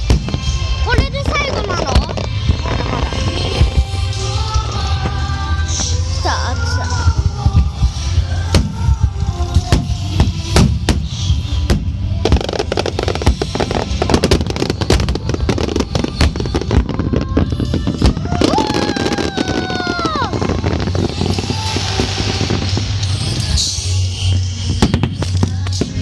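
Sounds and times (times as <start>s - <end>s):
fireworks booming: 0.0s - 26.0s
fireworks crackling: 0.0s - 26.0s
music playing: 0.0s - 26.0s.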